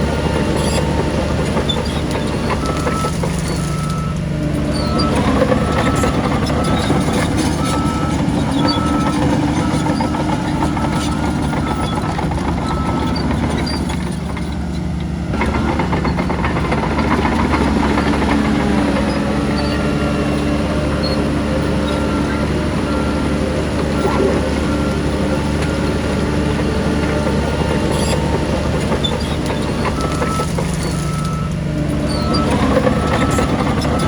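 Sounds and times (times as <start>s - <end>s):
diesel engines running: 0.0s - 34.0s
reversing alarm beeping: 2.4s - 14.3s, 15.2s - 34.0s.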